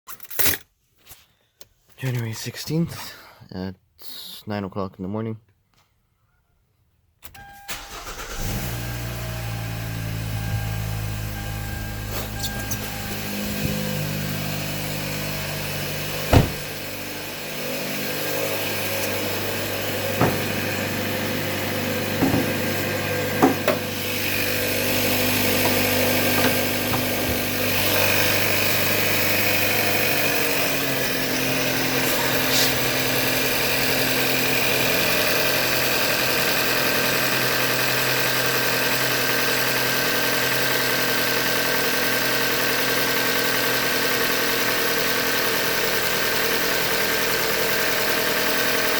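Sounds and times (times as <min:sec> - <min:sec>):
car engine idling: 0:07.7 - 0:48.9.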